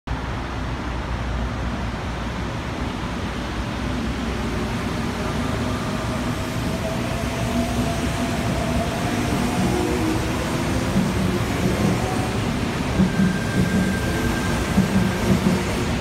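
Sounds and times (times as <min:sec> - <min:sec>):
train wheels rumbling on rails: 0:00.9 - 0:16.0.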